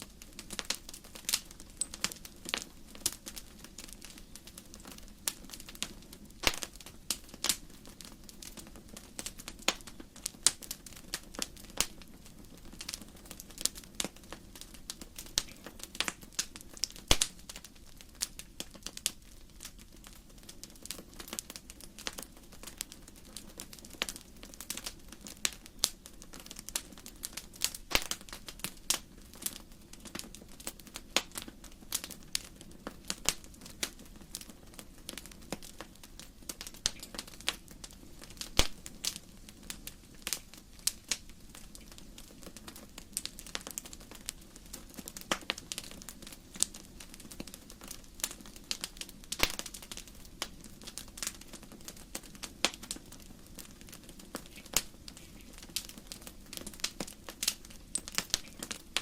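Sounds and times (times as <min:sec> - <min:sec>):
firewood crackling in fireplace: 0:00.0 - 0:59.0.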